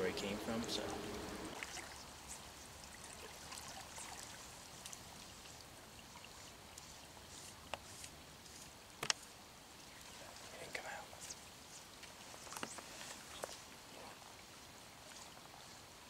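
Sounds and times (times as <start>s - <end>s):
small stream flowing: 0.0s - 16.0s.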